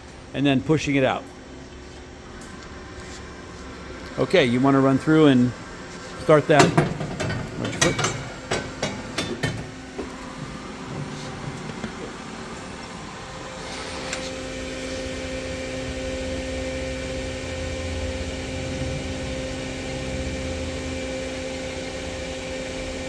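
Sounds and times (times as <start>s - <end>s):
lathe machine hum: 2.8s - 23.0s.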